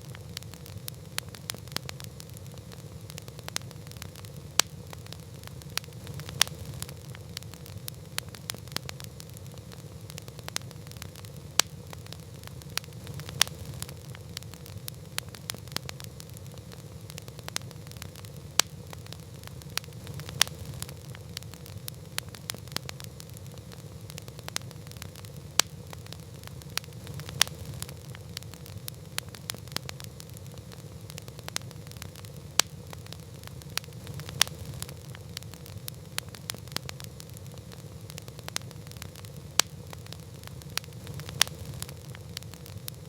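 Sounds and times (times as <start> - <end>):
campfire crackling and popping: 0.0 - 43.0
low fire rumble: 0.0 - 43.0.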